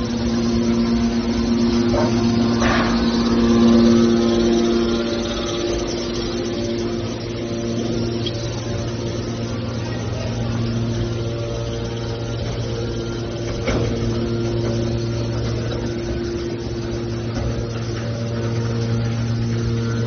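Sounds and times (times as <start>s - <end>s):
hydraulic baler humming: 0.0s - 20.0s.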